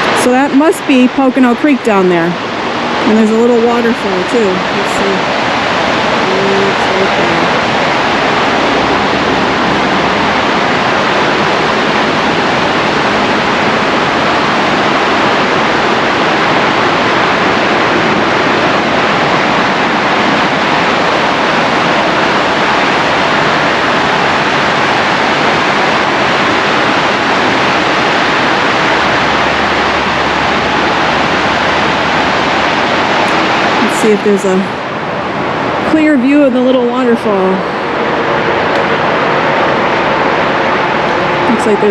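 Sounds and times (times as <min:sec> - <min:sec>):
creek rapids and waterfall rushing: 0:00.0 - 0:41.9.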